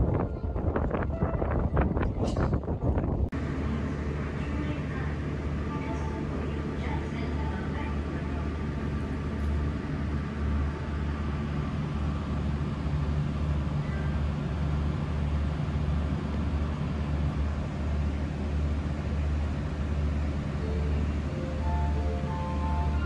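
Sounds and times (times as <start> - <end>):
boat engine droning: 0.0 - 23.0
wind: 0.0 - 23.0.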